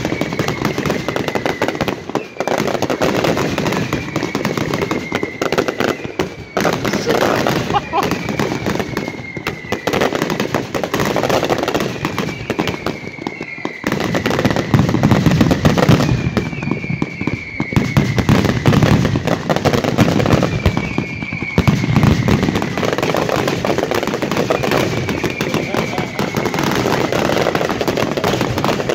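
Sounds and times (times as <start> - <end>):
falling firework whistle: 0.0 - 28.9
fireworks crackling and banging: 0.0 - 28.9.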